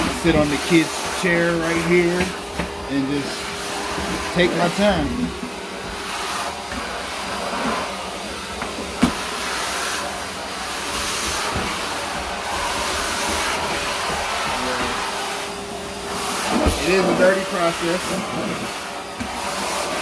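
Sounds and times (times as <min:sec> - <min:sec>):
shop vacuum motor whirring: 0:00.0 - 0:20.0.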